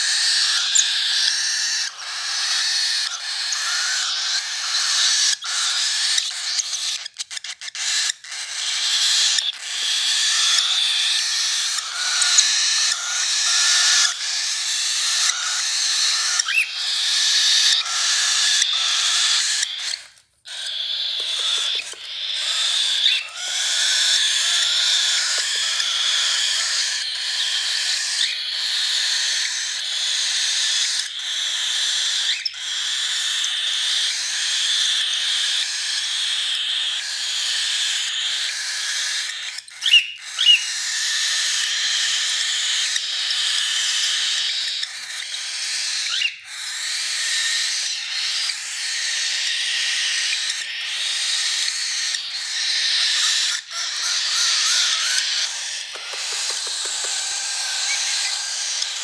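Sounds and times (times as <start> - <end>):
cockatiel chick begging call: 0.0 - 59.0
sharp loud bird calls: 0.0 - 59.0.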